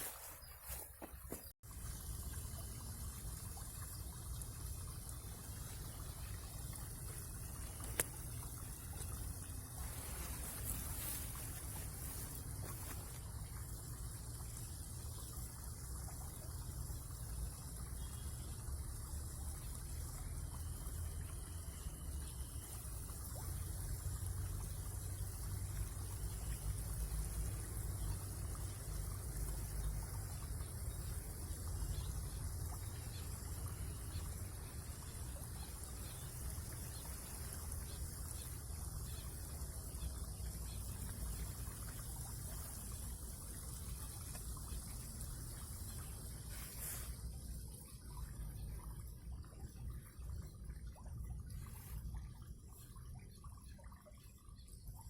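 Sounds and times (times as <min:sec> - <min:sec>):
water trickling and lapping: 0:00.0 - 0:55.0.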